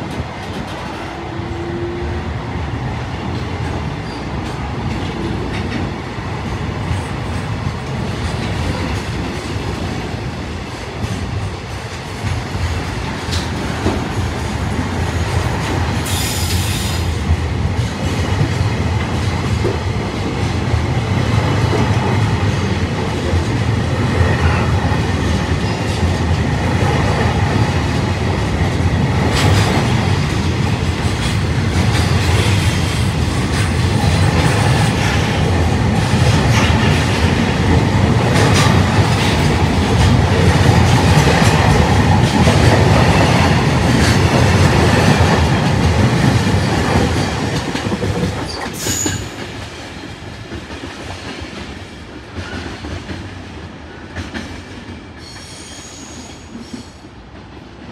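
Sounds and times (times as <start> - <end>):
freight train rumbling: 0.0 - 57.9.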